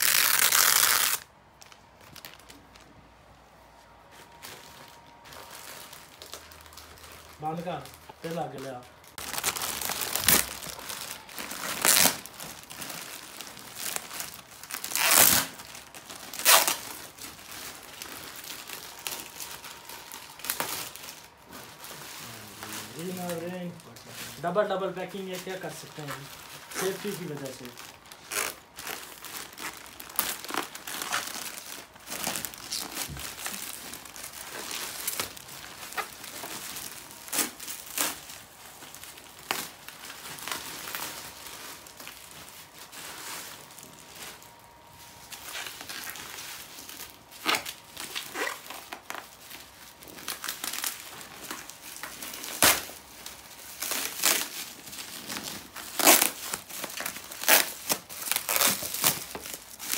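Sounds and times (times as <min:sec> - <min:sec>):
plastic tearing: 0:00.0 - 0:02.8, 0:04.9 - 0:21.4, 0:22.6 - 0:44.4, 0:45.3 - 0:59.9
plastic crinkling and rustling: 0:00.0 - 0:59.9.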